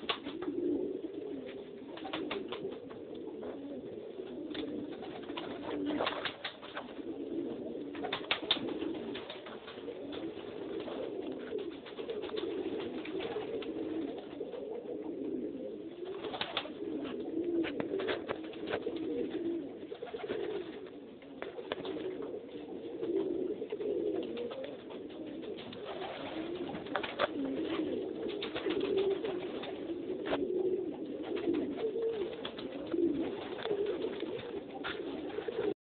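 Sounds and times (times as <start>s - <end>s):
pigeons cooing: 0.0s - 35.8s.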